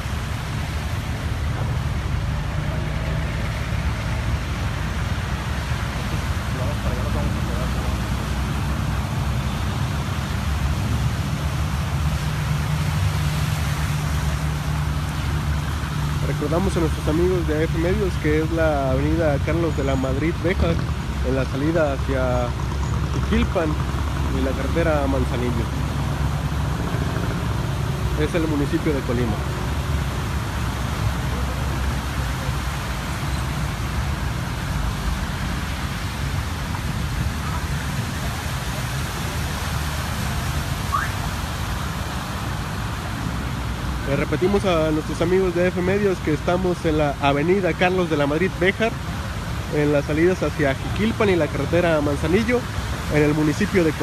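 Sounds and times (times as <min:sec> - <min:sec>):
car engines: 0:00.0 - 0:54.0
tyres swishing through water: 0:00.0 - 0:54.0.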